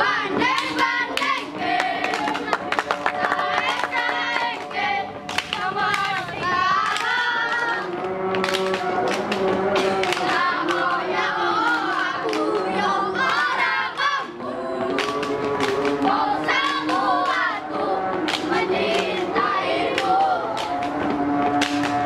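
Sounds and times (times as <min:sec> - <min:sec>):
boys singing a cheer: 0:00.0 - 0:22.0
hand claps: 0:00.4 - 0:10.9, 0:11.5 - 0:14.2, 0:14.9 - 0:17.6, 0:18.2 - 0:19.2, 0:19.8 - 0:22.0.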